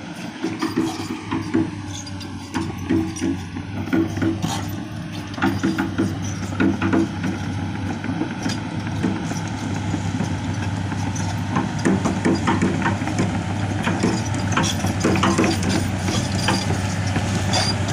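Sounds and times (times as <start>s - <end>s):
excavator diesel engine running: 0.0s - 17.9s
clanks and knocks: 0.4s - 17.9s.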